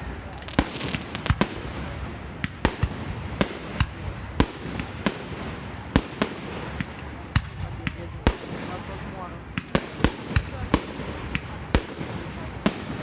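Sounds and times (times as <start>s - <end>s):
fireworks bangs: 0.0s - 13.0s
steady background noise: 0.0s - 13.0s.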